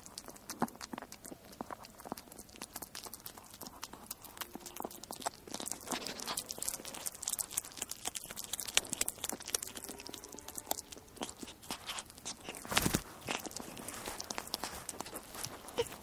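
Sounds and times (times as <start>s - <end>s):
animal crunching and chewing: 0.0s - 16.0s.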